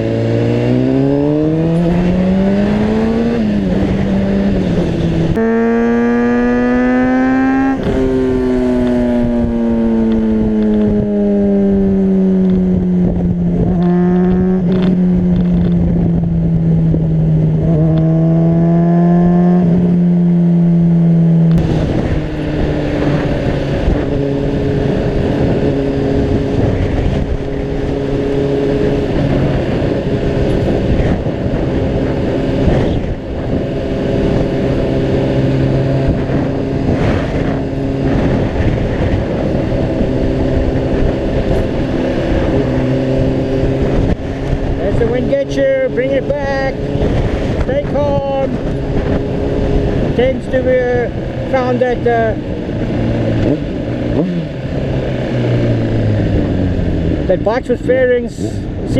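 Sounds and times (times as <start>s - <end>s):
gusty wind on microphone: 0.0s - 58.9s
motorcycle engine running: 0.0s - 58.9s.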